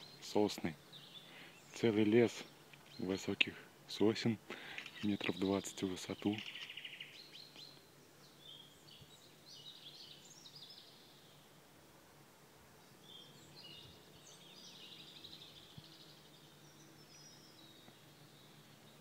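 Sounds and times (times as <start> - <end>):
faint songbird chirping: 0.0 - 11.8, 12.6 - 19.0.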